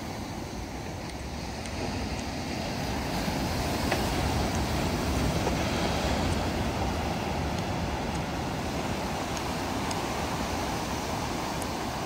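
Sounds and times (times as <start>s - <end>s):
surf washing over rocky shore: 0.0s - 12.0s.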